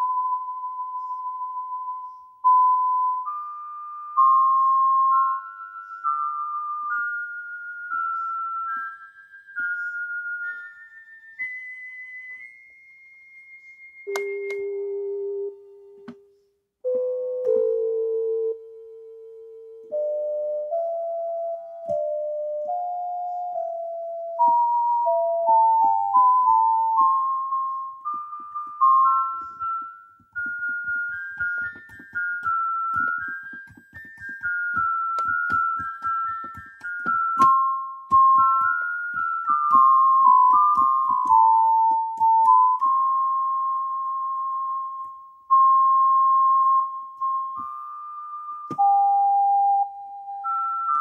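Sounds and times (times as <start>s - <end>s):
keyboard melody: 0.0s - 51.0s.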